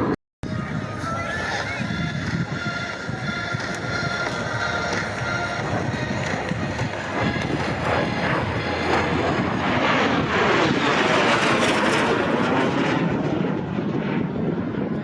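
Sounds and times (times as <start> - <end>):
jet flyby roar: 0.0 - 15.0.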